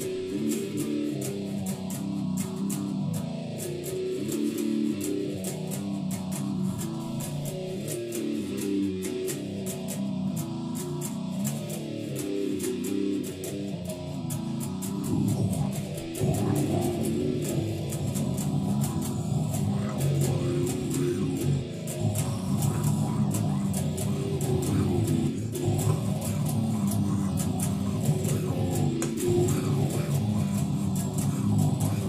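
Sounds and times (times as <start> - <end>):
electric guitar riff: 0.0 - 32.0
sharp ticks: 0.0 - 32.0.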